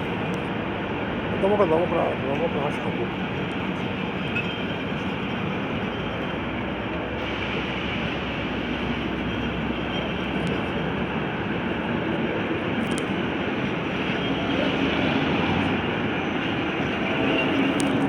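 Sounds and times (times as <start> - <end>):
passing train rumbling: 0.0 - 18.0.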